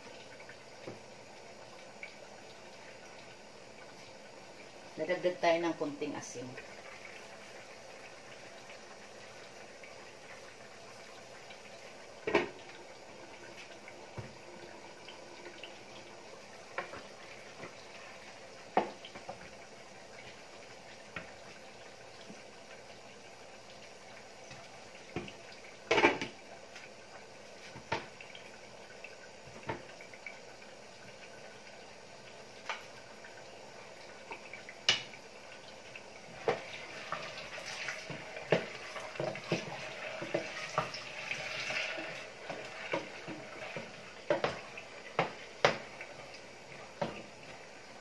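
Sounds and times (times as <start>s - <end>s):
faint bubbling of simmering pan: 0.0s - 48.0s.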